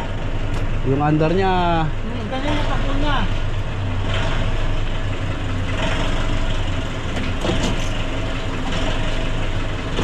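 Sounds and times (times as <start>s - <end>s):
van engine idling: 0.0s - 10.0s.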